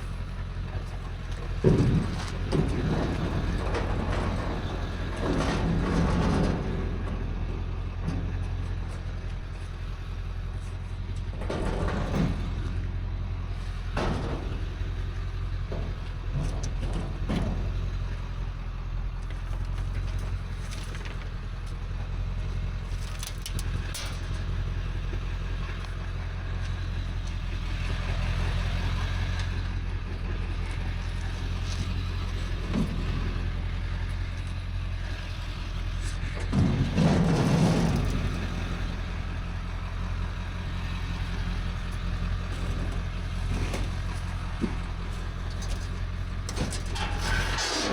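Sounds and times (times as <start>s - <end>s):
knocks and rattles: 0.0s - 47.9s
truck engine humming: 0.0s - 47.9s.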